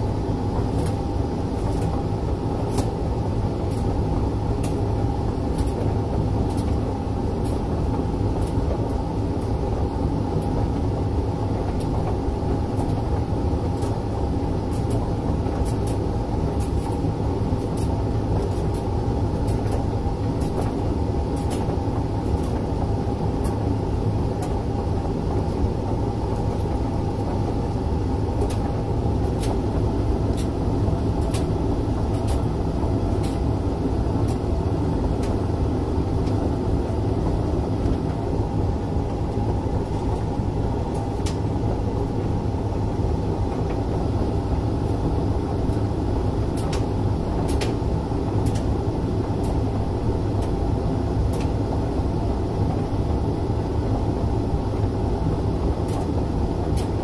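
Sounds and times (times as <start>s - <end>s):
tumble dryer humming: 0.0s - 57.0s.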